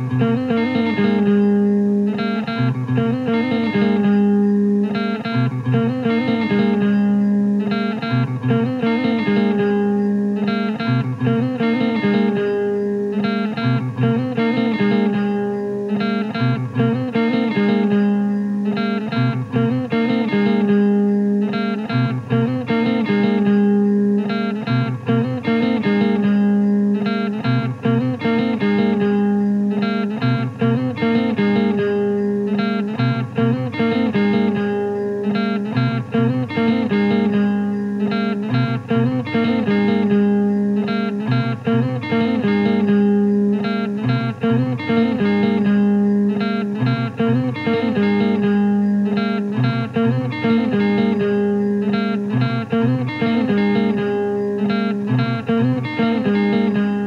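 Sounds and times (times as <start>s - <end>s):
guitar playing repeating figure: 0.0s - 57.0s.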